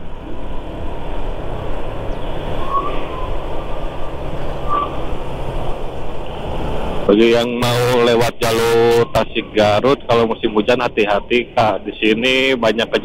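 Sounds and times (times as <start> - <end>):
motorcycle engine drone: 0.0 - 13.0
road and wind rush: 0.0 - 13.0.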